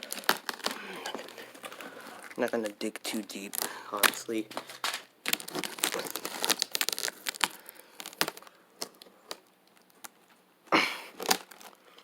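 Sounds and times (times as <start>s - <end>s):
packaging cracks and clicks: 0.0s - 2.6s, 3.4s - 10.2s, 11.2s - 12.0s
packaging rustling: 0.0s - 10.4s, 11.1s - 12.0s.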